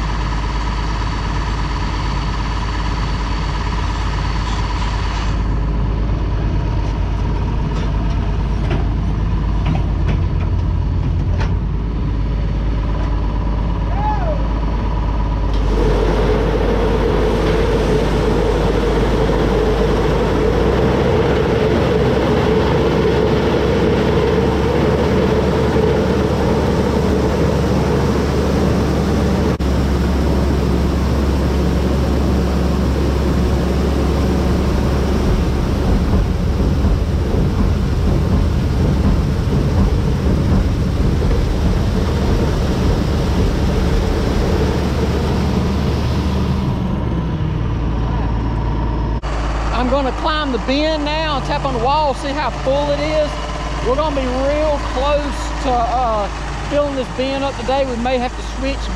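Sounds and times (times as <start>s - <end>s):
heavy farm machinery droning: 0.0s - 58.9s.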